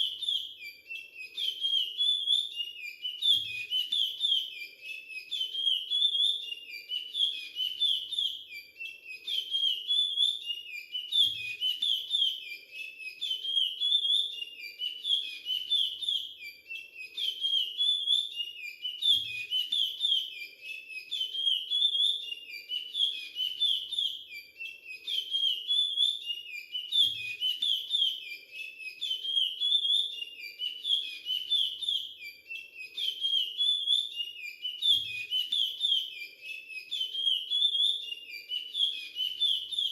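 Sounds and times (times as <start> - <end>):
finch singing whistled warbling song: 0.0 - 39.9.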